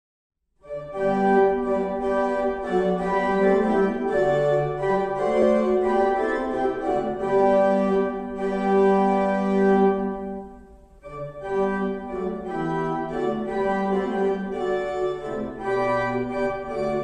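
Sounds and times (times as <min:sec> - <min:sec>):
organ playing held chords: 0:00.6 - 0:17.0.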